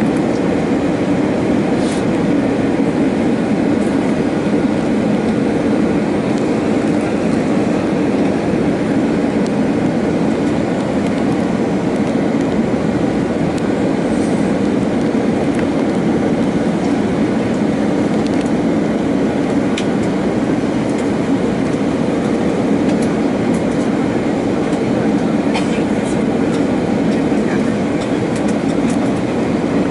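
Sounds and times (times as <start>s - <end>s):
jet engine and airflow noise: 0.0s - 29.9s.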